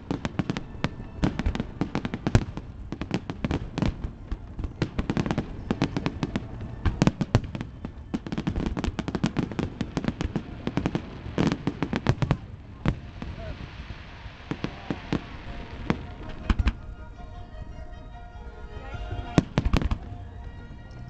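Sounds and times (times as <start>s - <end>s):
fireworks bangs and crackling bursts: 0.0s - 17.0s, 19.0s - 20.1s.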